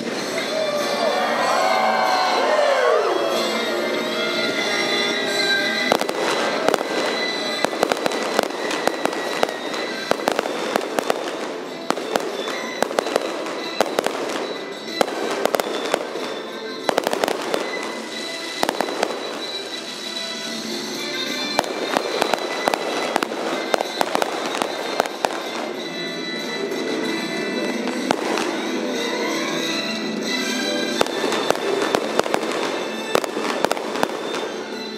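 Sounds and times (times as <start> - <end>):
fireworks bursting with bangs: 0.0 - 0.9, 3.6 - 34.9
music playing: 0.0 - 34.9.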